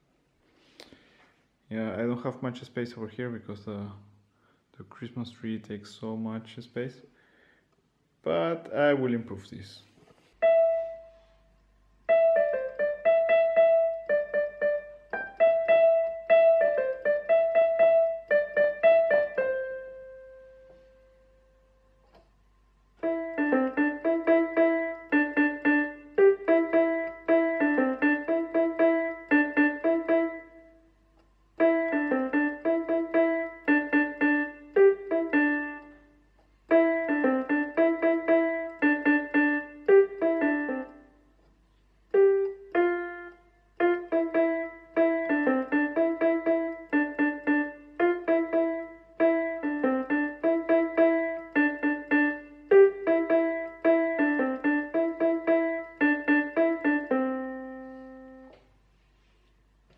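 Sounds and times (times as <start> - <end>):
digital keyboard piano notes: 10.4 - 58.6.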